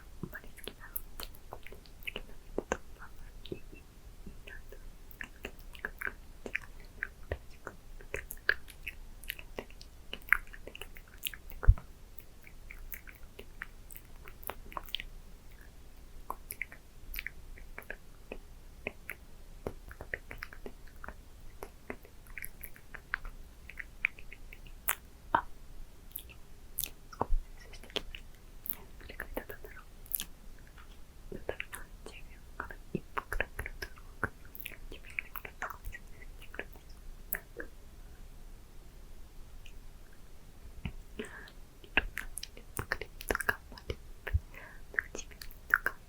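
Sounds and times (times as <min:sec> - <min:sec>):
lips smacking: 0:00.2 - 0:15.7, 0:16.3 - 0:25.5, 0:26.1 - 0:37.8, 0:39.6 - 0:46.0.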